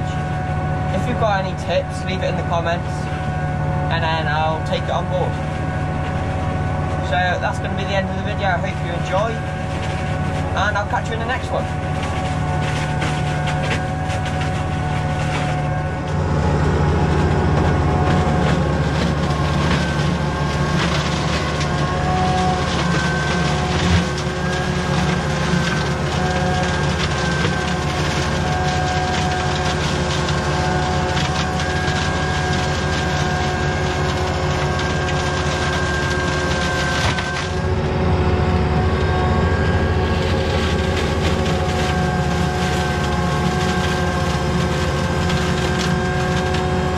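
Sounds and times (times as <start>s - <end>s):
hedge cutter whine: 0.0s - 46.9s
tractor engine running: 0.0s - 46.9s.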